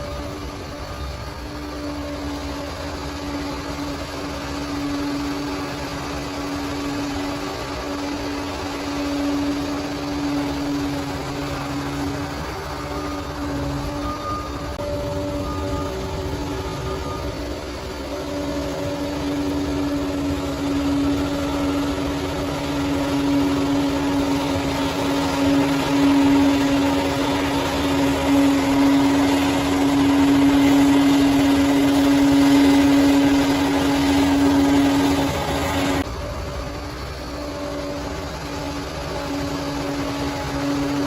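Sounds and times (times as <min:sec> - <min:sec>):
bulldozer diesel engine under load: 0:00.0 - 0:41.0
steady whine: 0:00.0 - 0:41.0.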